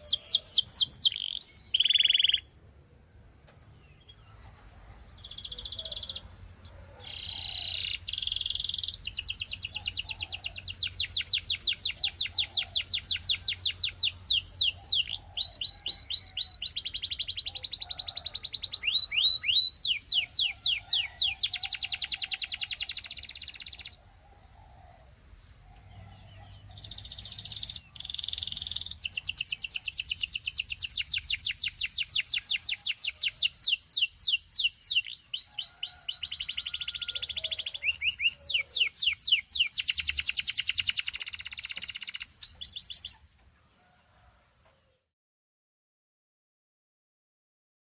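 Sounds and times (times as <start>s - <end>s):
canary singing trills: 0.0s - 2.5s, 3.8s - 24.1s, 25.6s - 43.3s.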